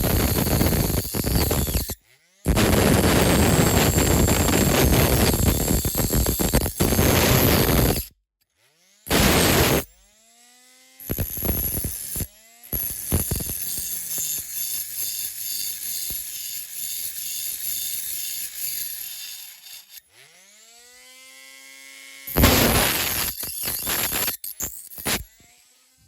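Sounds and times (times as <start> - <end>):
rotary tool grinding metal: 0.0 - 26.0.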